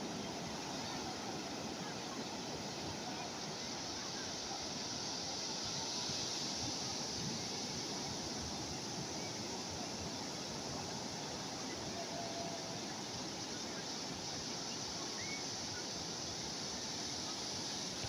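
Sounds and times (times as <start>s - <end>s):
calm sea waves hissing: 0.0s - 18.0s.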